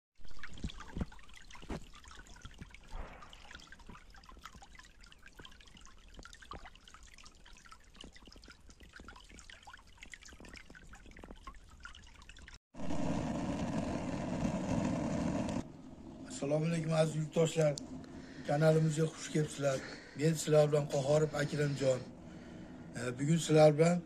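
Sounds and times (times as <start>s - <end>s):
water trickling in a channel: 0.2s - 12.6s, 15.7s - 24.0s.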